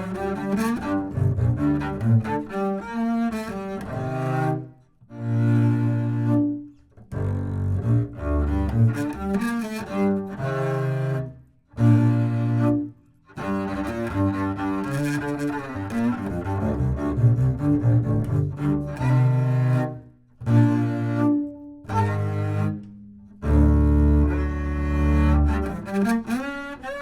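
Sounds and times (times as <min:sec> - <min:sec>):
bowed double bass: 0:00.0 - 0:27.0.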